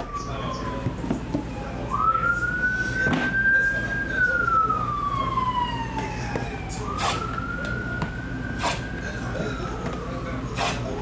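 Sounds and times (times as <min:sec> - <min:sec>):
siren wailing: 0:00.0 - 0:10.4.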